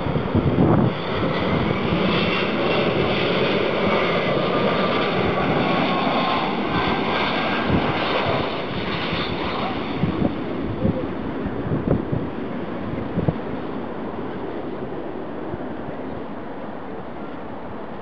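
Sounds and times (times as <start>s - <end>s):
jet airliner engine rushing: 0.0s - 18.0s
jet engine whine: 0.0s - 18.0s.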